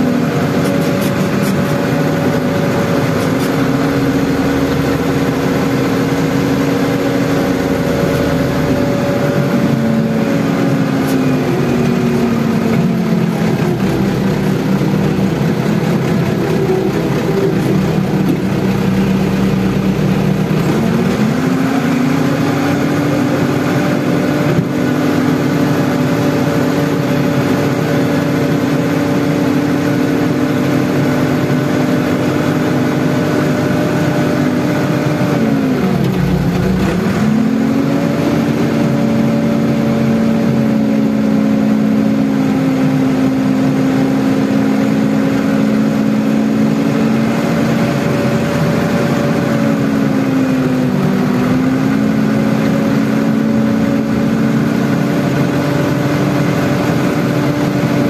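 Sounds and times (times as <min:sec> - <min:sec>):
diesel engine lugging under load: 0:00.0 - 0:58.0.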